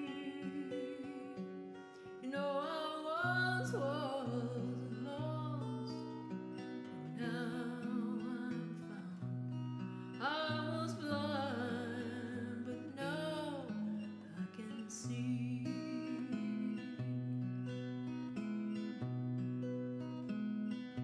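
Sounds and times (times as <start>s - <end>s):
strummed acoustic guitar: 0.0s - 21.0s.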